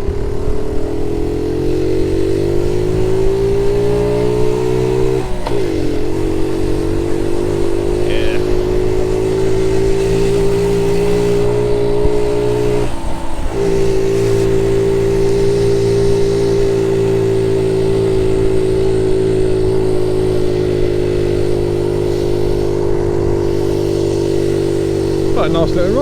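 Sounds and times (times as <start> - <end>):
small motorbike engine running: 0.0 - 26.0.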